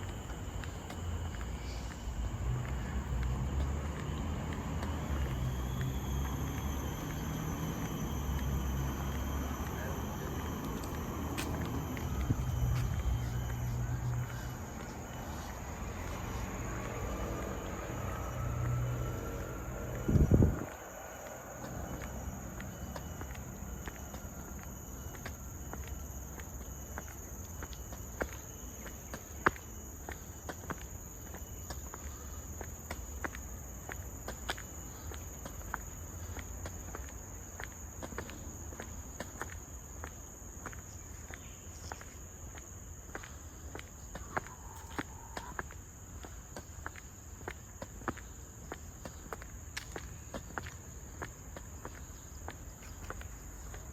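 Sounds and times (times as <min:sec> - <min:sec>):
footsteps on a path: 0:00.0 - 0:53.9
forest insects droning: 0:00.0 - 0:53.9.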